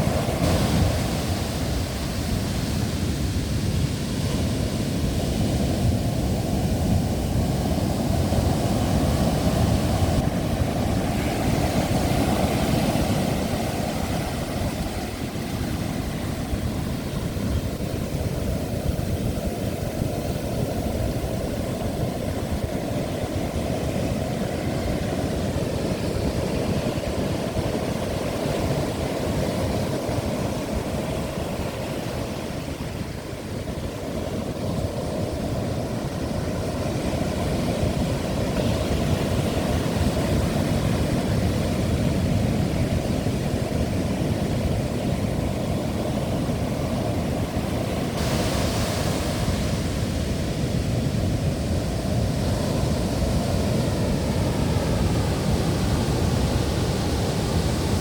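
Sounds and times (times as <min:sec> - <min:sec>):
heavy surf rushing: 0:00.0 - 0:58.0
wind buffeting microphone: 0:00.0 - 0:58.0.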